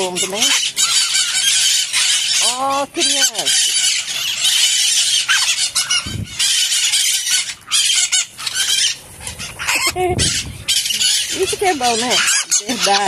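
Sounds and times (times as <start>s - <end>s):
parakeets screeching: 0.0s - 13.0s.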